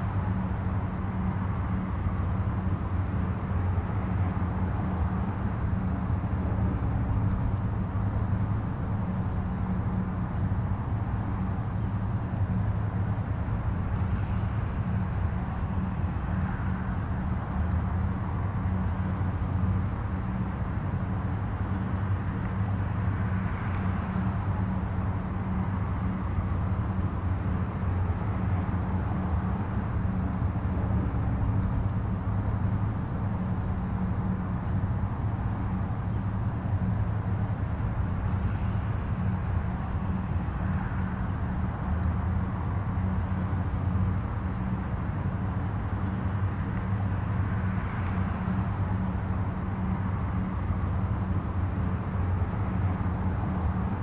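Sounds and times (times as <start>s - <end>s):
distant highway traffic rumble: 0.0s - 54.0s.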